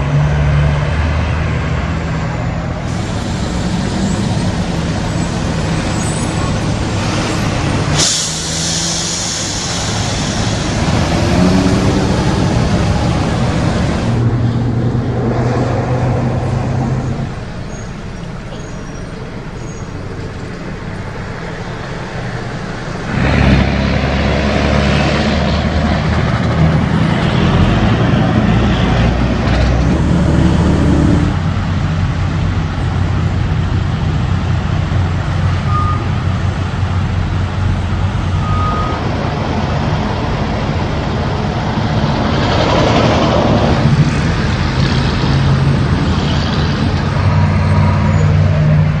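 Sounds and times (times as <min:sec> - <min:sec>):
road noise: 0:00.0 - 0:49.0
truck diesel engines: 0:00.0 - 0:49.0.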